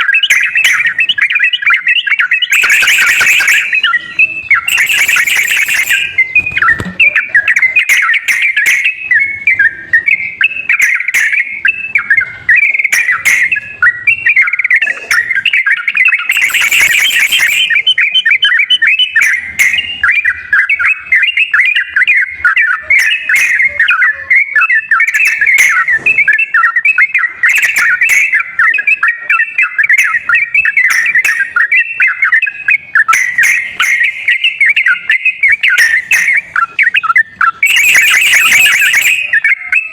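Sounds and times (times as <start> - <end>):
bird chattering and singing: 0.0 - 39.9.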